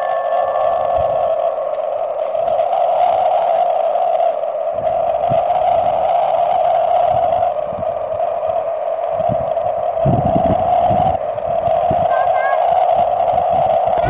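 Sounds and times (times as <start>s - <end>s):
loud rushing noise: 0.0s - 14.0s
wind buffeting microphone: 0.0s - 14.0s.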